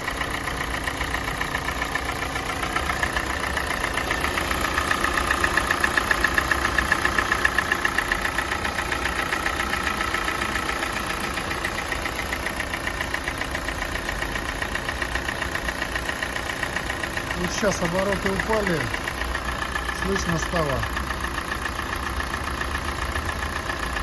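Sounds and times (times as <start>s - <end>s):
car engine idling: 0.0s - 24.0s
rapid ticking engine knock: 0.0s - 24.0s.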